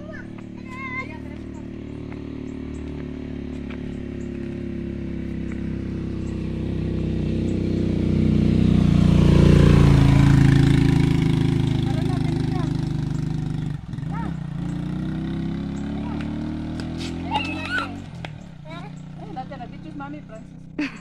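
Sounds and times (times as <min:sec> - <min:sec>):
motorcycle engine passing by: 0:00.0 - 0:21.0.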